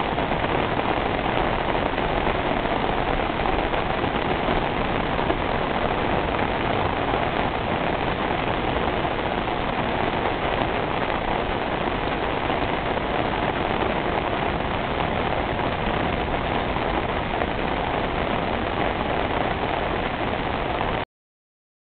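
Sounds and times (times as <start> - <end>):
heavy rain on standing water: 0.0 - 21.1.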